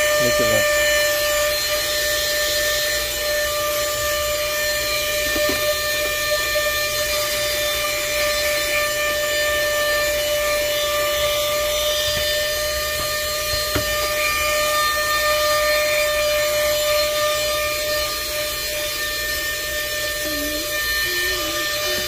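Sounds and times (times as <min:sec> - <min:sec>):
handheld vacuum motor whine: 0:00.0 - 0:22.0.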